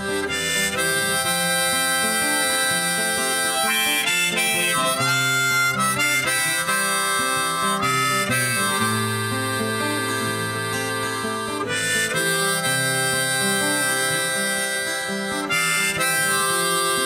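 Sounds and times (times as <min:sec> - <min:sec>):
instrumental pop music: 0:00.0 - 0:17.0.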